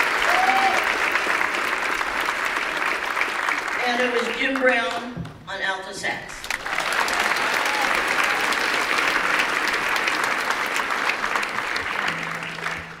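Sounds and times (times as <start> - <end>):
audience applauding: 0.0 - 5.1, 6.4 - 13.0.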